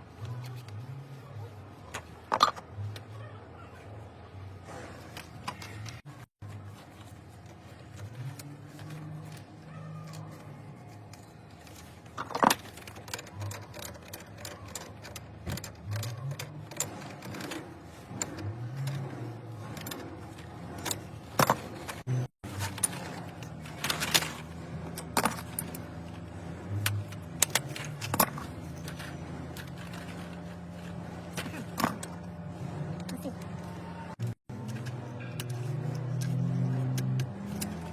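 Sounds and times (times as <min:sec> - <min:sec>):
metal tools clinking: 0:07.0 - 0:37.9.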